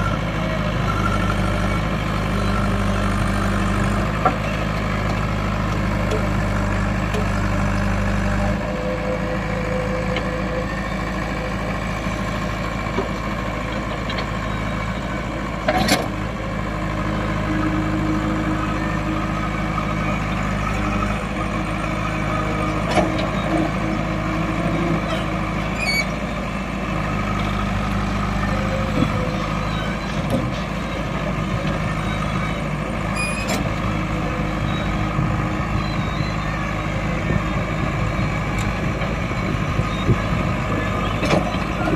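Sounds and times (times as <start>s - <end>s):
heavy diesel engines running: 0.0s - 41.9s.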